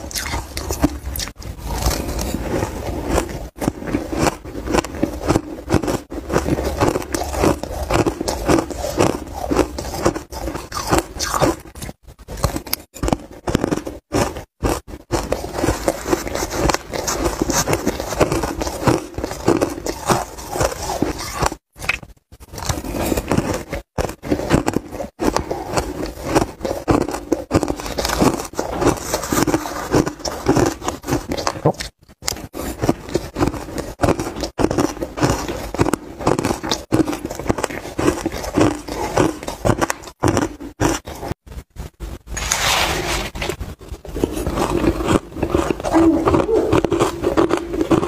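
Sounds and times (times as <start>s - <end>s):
crunching shaved ice: 0.0s - 41.4s, 42.4s - 48.0s.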